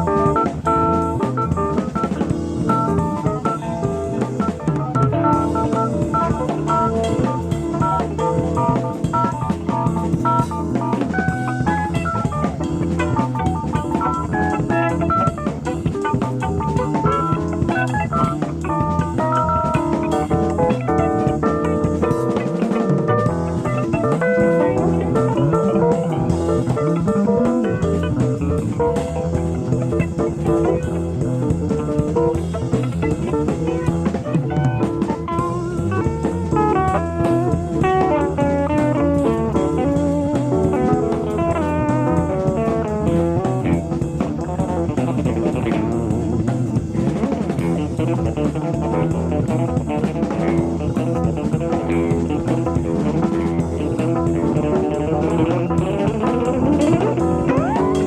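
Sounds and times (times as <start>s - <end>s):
bass guitar: 0.0s - 58.0s
drum kit: 0.0s - 58.0s
guitar quick runs: 0.0s - 58.0s.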